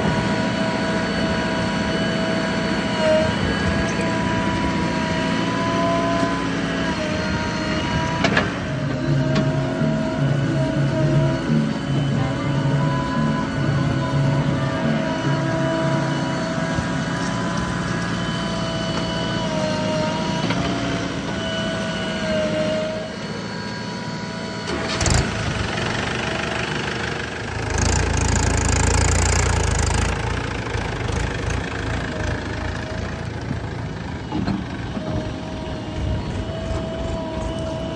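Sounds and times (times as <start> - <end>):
diesel engines running: 0.0 - 37.9.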